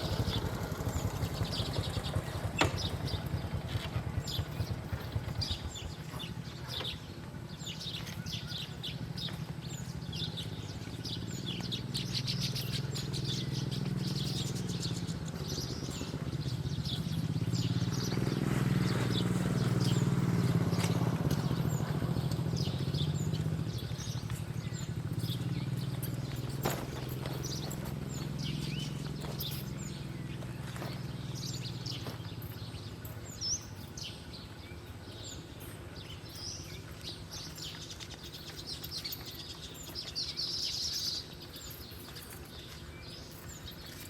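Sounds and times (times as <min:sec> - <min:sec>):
distant motor vehicle drone: 0:00.0 - 0:44.0
small birds chirping: 0:00.0 - 0:44.0.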